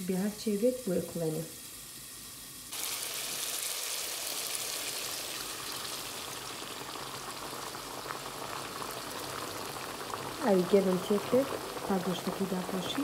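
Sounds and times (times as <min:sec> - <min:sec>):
water hissing in hot pot: 0:00.0 - 0:13.0.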